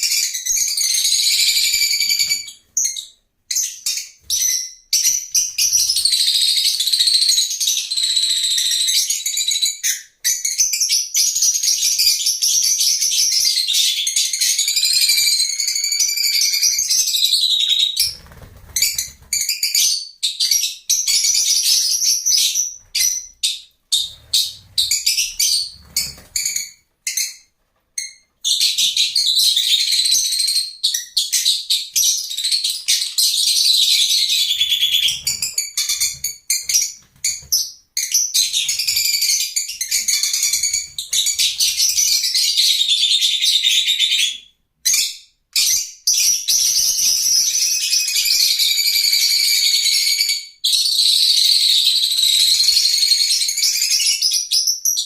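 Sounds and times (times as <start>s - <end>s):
birds chirping and squeaking: 0.0s - 55.0s.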